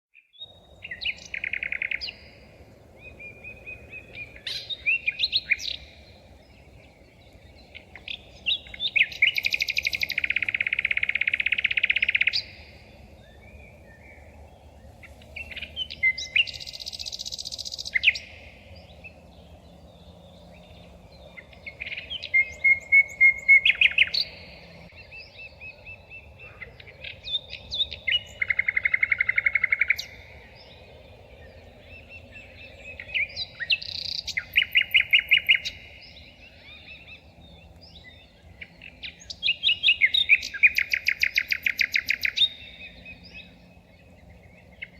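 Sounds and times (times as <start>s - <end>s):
songbird singing trills: 0.2s - 44.9s.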